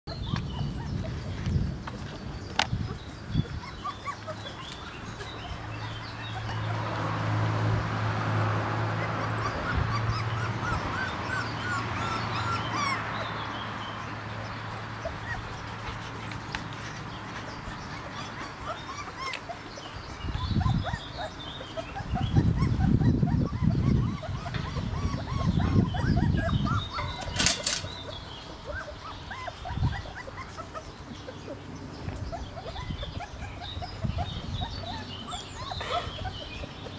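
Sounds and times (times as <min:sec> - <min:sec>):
puppies whimpering and yipping: 0:00.1 - 0:07.1, 0:08.6 - 0:36.9.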